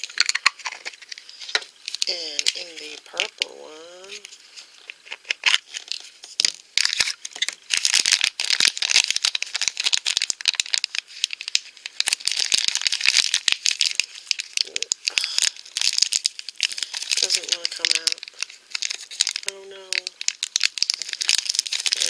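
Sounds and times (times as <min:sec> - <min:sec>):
plastic bag crackling and rustling: 0:00.0 - 0:22.0.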